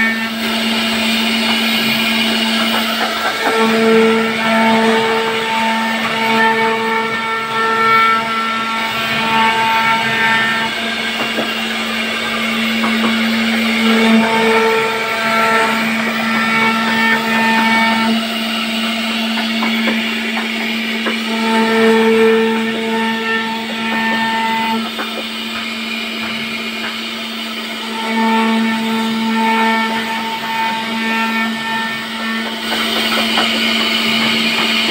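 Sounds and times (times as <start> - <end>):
high whine: 0.0 - 29.2
router spindle cutting wood: 0.0 - 34.9.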